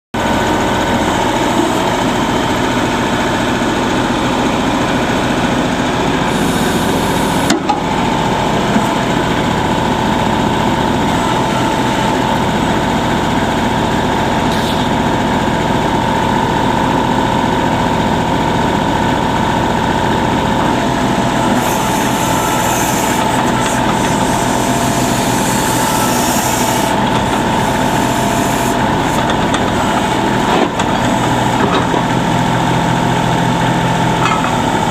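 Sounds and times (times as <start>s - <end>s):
diesel engine running: 0.1s - 34.9s
engine whine: 0.2s - 34.9s.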